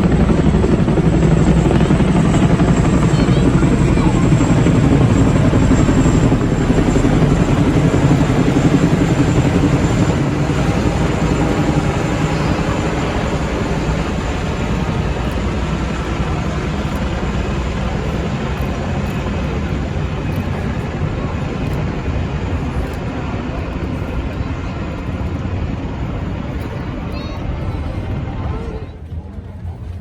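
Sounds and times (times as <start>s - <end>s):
helicopter flying past: 0.0s - 30.0s.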